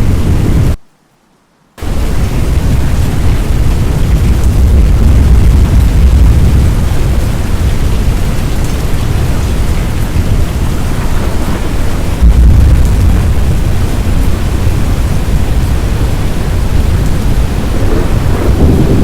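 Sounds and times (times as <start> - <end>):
thunder rumbling: 0.0 - 0.8, 1.8 - 19.0
rain hissing: 0.0 - 1.2, 1.8 - 19.0.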